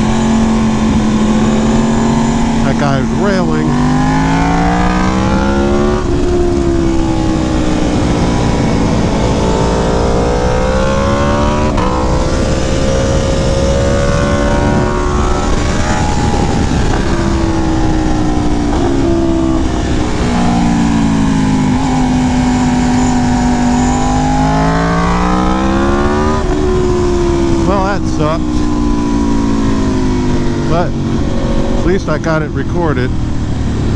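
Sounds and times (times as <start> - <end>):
wind rushing: 0.0 - 31.9
motorcycle engine revving: 0.0 - 33.9.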